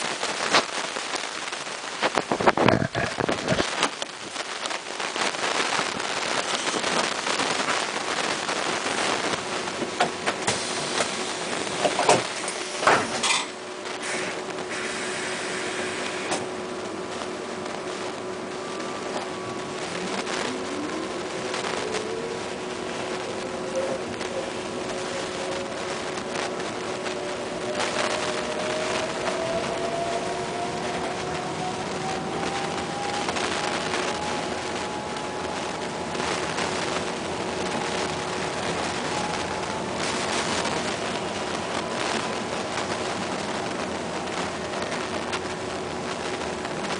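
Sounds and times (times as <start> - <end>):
steady hum: 0.0 - 46.9
electric bus motor whine: 5.4 - 46.9.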